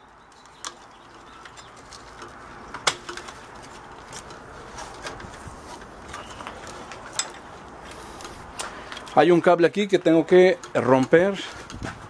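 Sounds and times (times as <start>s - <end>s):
light clicks and rattles: 0.0s - 12.0s.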